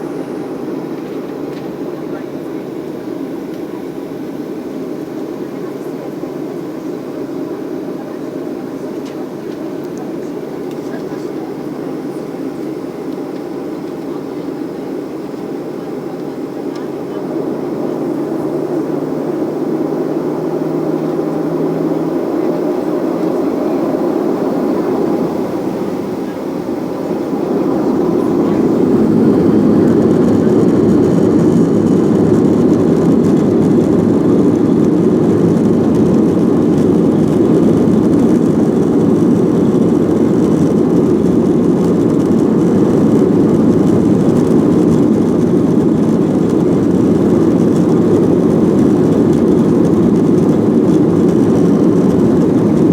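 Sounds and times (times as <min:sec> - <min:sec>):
jet engine in cabin: 0:00.0 - 0:52.9.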